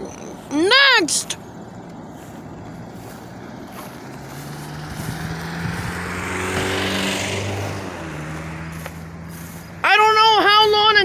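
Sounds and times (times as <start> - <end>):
motor vehicle passing by: 0.0 - 11.0.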